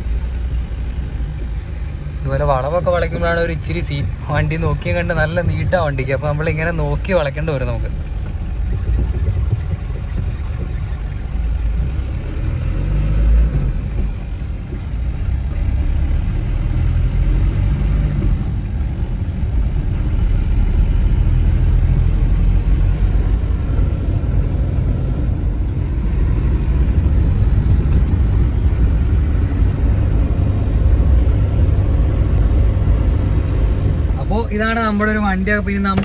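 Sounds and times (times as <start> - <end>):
diesel car engine rumble: 0.0 - 36.0.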